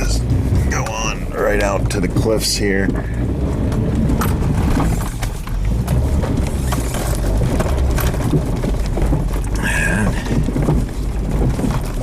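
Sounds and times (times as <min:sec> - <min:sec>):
knocks and rattles: 0:00.0 - 0:12.0
vehicle rumbling over dirt track: 0:00.0 - 0:12.0.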